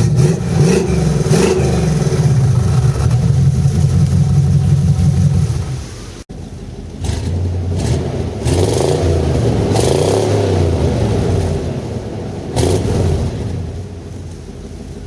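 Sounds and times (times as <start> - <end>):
car engine revving: 0.0 - 6.0, 6.9 - 14.1.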